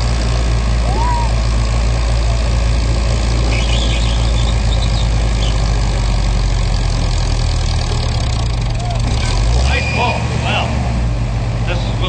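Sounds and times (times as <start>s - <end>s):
tractor engine running loud: 0.0s - 12.0s.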